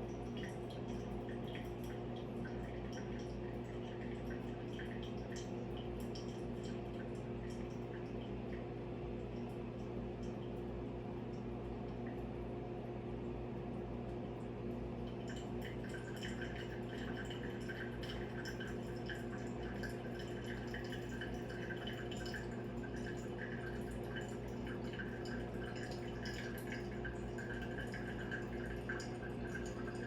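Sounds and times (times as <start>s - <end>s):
coffee dripping through filter: 0.0s - 12.3s, 13.6s - 30.0s.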